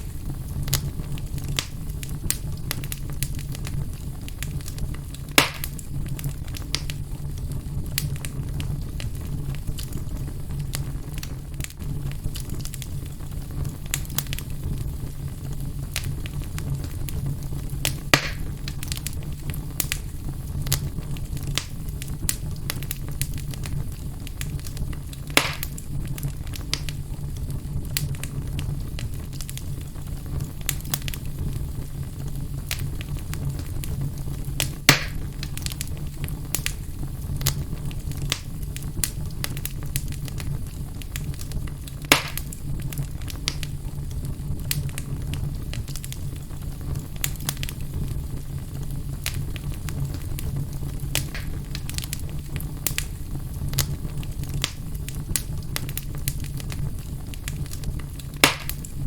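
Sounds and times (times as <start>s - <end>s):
fire pops: 0.0s - 59.0s
low rumble of flames: 0.0s - 59.0s
wood fire crackling: 0.0s - 59.0s.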